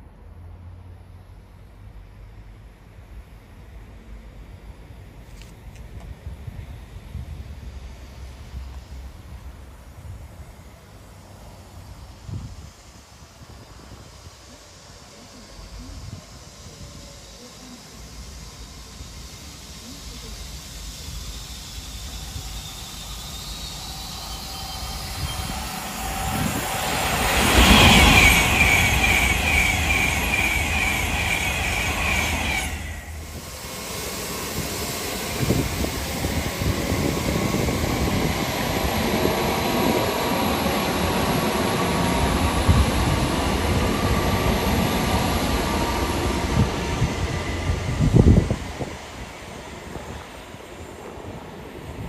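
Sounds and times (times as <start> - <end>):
train passing at speed: 0.0 - 52.0.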